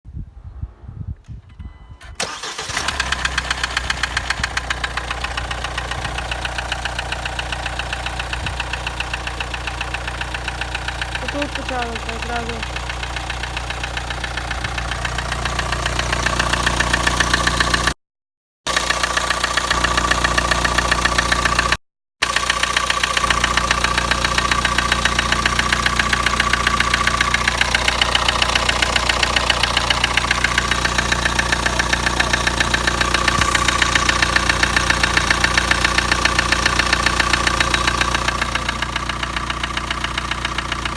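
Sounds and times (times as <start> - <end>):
car engine running: 2.2 - 18.0, 18.7 - 40.9
fast regular engine knocking: 2.3 - 18.0, 18.7 - 40.9.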